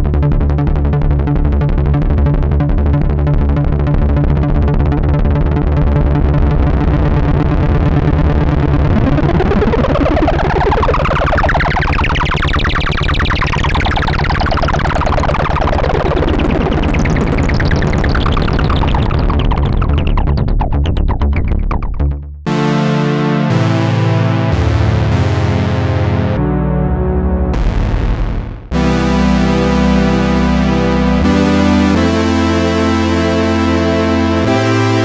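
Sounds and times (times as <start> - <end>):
synthesizer pulsing buzz: 0.0 - 35.0.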